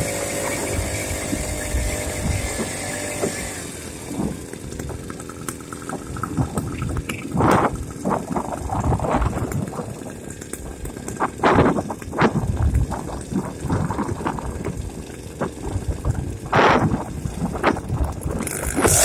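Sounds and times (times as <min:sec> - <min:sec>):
low rumbles and rattling: 0:00.0 - 0:19.0
small engine running: 0:00.0 - 0:19.0.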